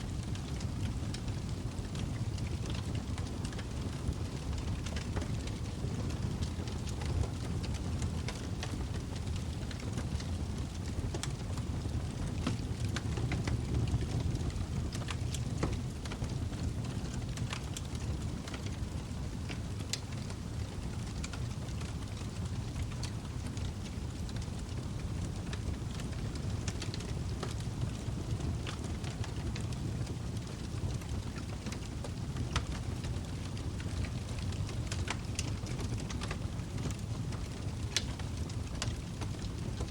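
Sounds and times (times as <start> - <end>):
fire flames rumbling: 0.0 - 39.9
wood crackling and popping: 0.0 - 39.9.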